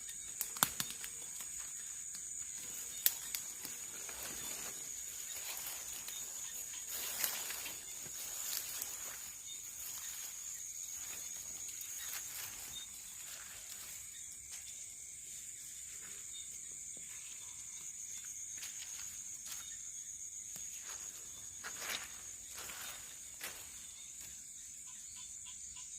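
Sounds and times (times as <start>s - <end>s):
insects trilling: 0.0s - 25.9s
rustling footsteps in vegetation: 0.4s - 19.8s, 20.5s - 24.4s.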